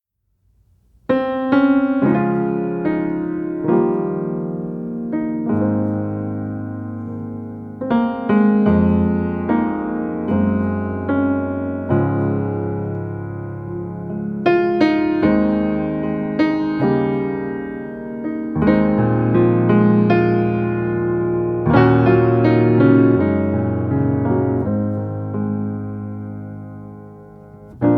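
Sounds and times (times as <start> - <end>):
piano music: 1.1 - 27.9.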